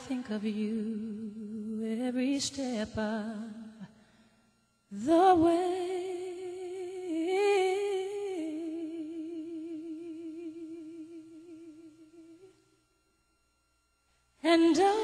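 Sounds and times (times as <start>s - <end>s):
person singing with vibrato: 0.0s - 4.0s, 4.9s - 12.6s, 14.4s - 15.0s.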